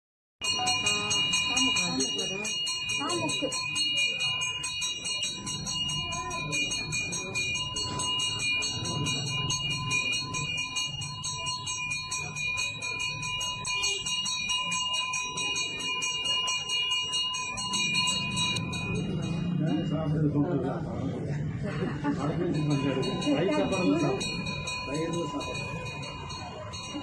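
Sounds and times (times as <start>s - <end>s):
bell ringing rapidly: 0.4s - 20.9s, 22.0s - 27.0s.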